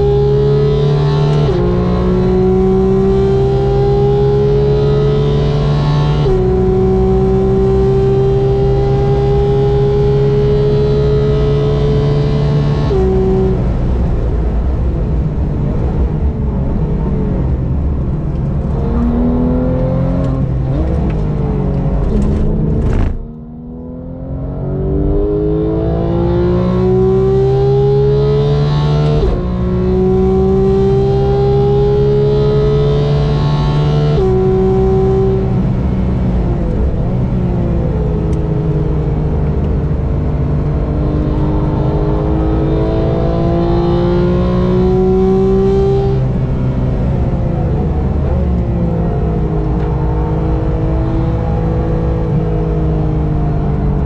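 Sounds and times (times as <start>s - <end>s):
race car engine revving: 0.0s - 14.0s, 17.7s - 54.0s.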